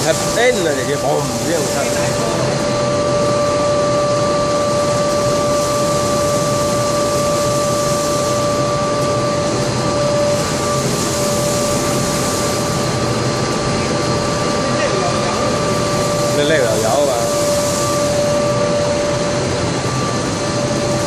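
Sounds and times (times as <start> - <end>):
furnace fans and motors running: 0.0 - 21.0
steady whine: 0.0 - 21.0.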